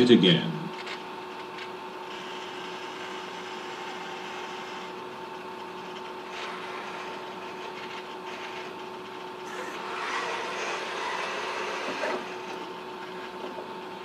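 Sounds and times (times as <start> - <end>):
robot arm mechanical hum and whir: 0.6 - 14.0.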